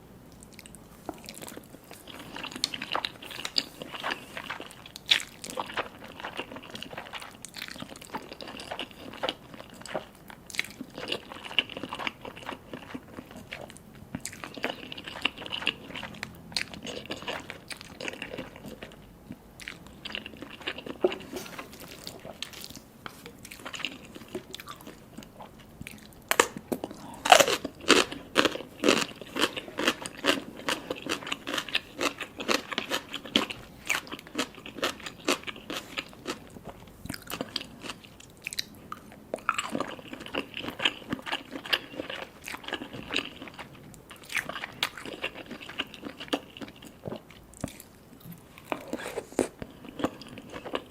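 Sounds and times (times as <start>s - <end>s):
person chewing noodles: 0.3s - 50.9s.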